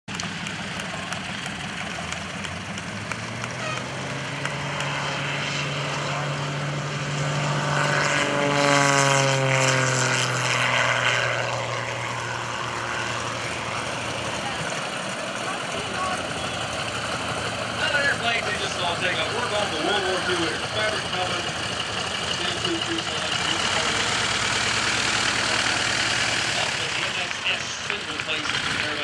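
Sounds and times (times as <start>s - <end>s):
propeller plane engine passing: 0.1s - 29.0s.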